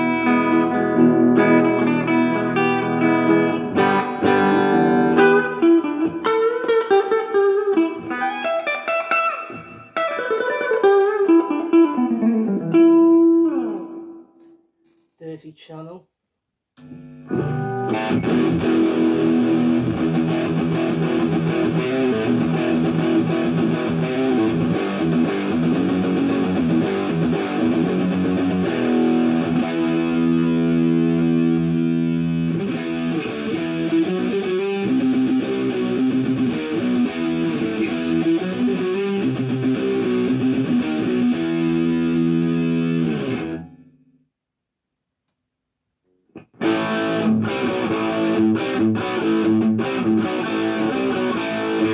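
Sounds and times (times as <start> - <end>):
electric guitar riffs: 0.0 - 14.5, 16.8 - 43.9, 46.4 - 51.9.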